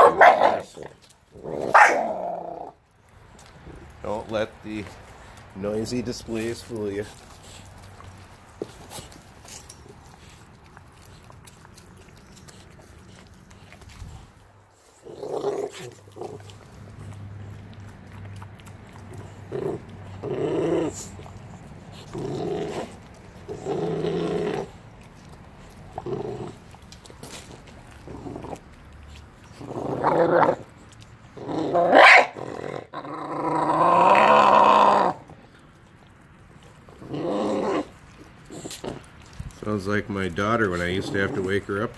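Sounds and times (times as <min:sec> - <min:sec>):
puppy growling: 0:00.0 - 0:35.6, 0:36.5 - 0:41.9.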